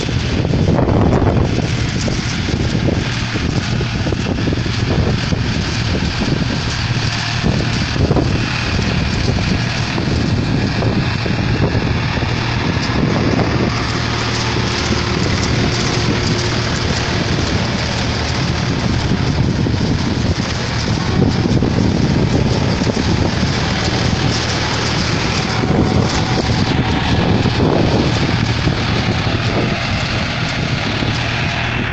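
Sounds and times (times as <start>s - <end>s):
tractor engine drone: 0.0s - 31.9s
wind buffeting microphone: 0.0s - 31.9s.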